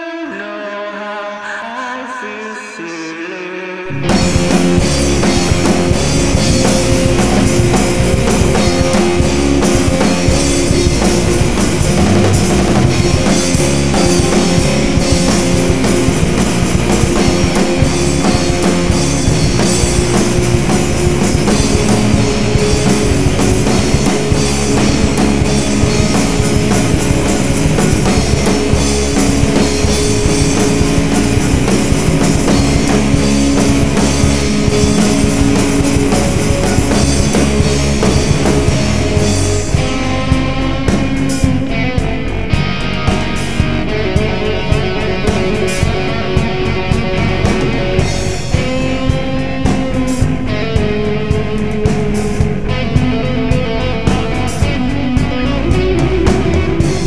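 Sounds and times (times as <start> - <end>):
rock band playing: 3.8 - 57.0.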